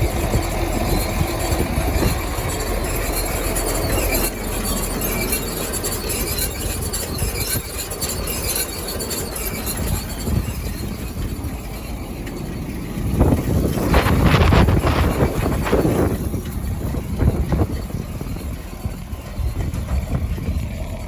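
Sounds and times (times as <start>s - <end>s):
round baler running: 0.0s - 21.0s.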